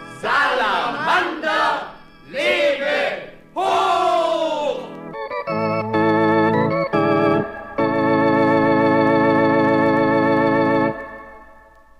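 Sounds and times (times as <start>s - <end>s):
organ chords: 0.0s - 11.9s.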